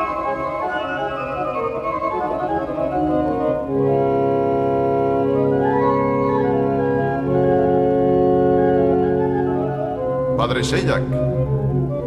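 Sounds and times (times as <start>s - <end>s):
church organ chords: 0.0s - 12.0s.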